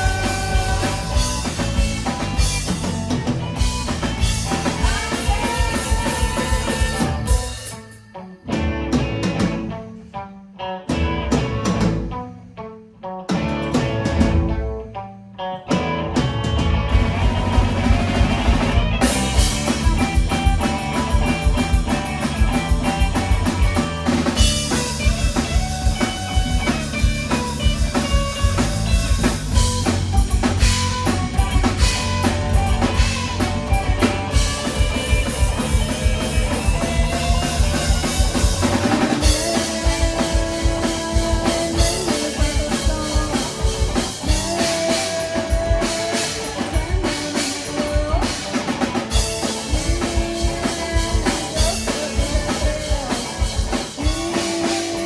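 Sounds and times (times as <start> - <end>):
drum kit hits: 0.0 - 7.9, 15.8 - 55.0
live band playing rock: 0.0 - 55.0.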